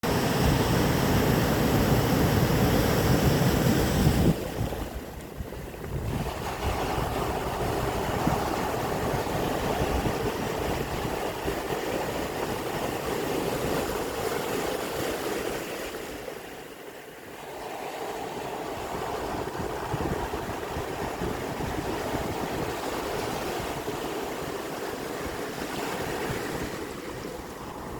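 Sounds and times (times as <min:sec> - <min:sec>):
sea waves washing onto shore: 0:00.0 - 0:27.9
wind rumble on microphone: 0:00.1 - 0:16.2, 0:18.1 - 0:27.9.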